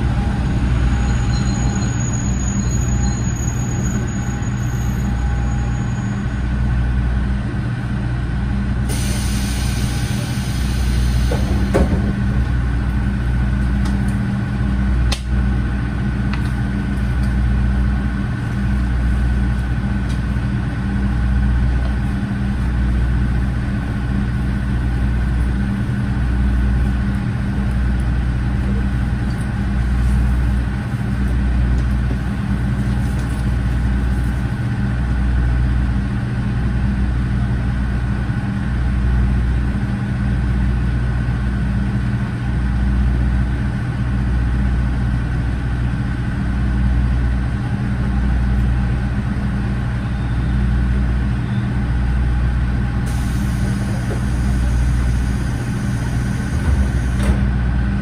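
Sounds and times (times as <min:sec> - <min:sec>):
diesel engine idling: 0:05.1 - 0:58.0.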